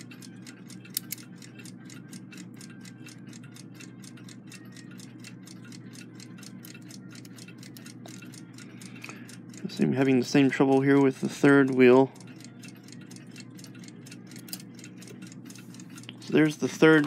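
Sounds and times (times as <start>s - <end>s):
mechanical clock ticking: 0.0s - 17.0s.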